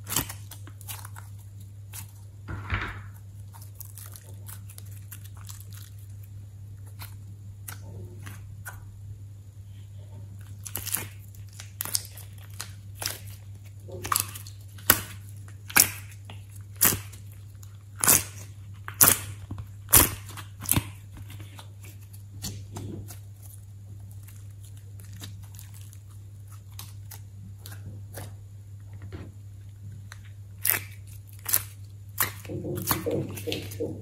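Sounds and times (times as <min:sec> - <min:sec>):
clay squishing: 0:00.0 - 0:34.0.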